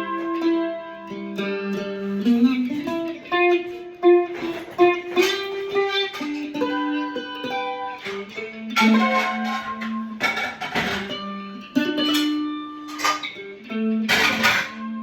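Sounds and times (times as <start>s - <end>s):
electric mandolin picking: 0.0s - 15.0s
guitar playing blues: 0.0s - 15.0s.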